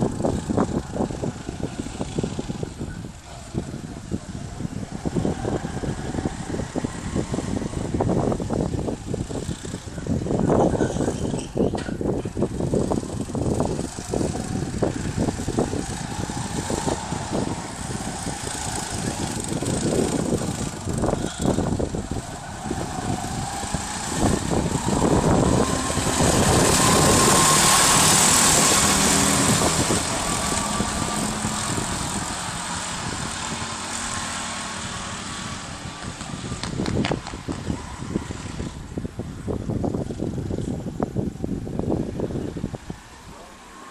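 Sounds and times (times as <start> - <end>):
go-kart engine accelerating: 0.0 - 43.9.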